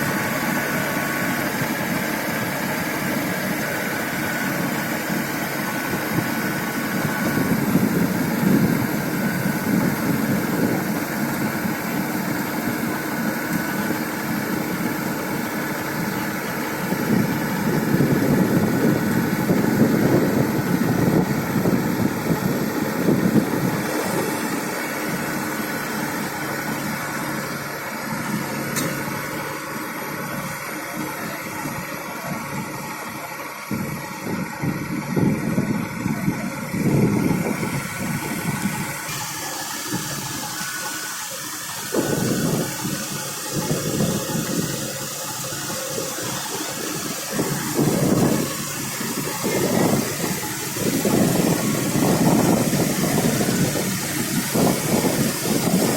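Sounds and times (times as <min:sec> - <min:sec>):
combine harvester engine running: 0:00.0 - 0:55.9.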